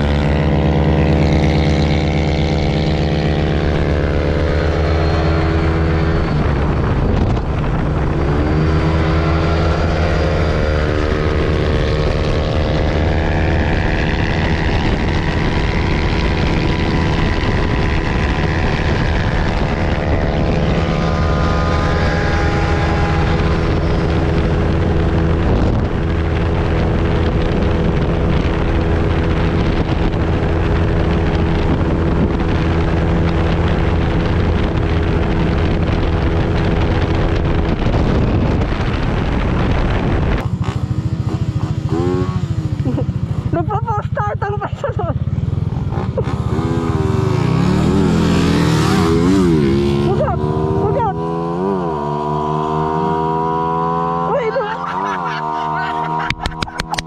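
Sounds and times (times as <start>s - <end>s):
scooter engine at full throttle: 0.0s - 57.0s
wind noise on microphone: 0.0s - 57.0s.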